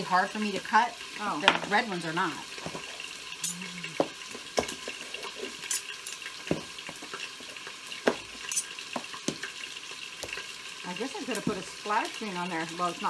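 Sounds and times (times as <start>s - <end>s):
beef sizzling: 0.0s - 13.0s.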